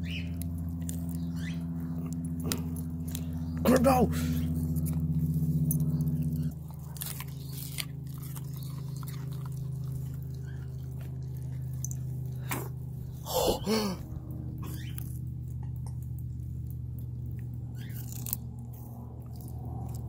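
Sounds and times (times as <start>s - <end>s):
dogs crunching asparagus: 0.0s - 13.2s, 14.0s - 20.0s
low hum: 0.0s - 20.0s.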